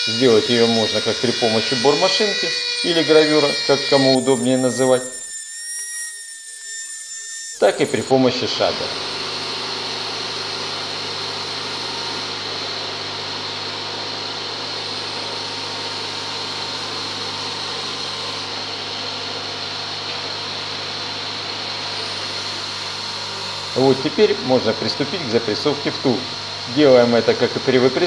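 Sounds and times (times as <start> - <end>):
machine motor droning: 0.0 - 28.0.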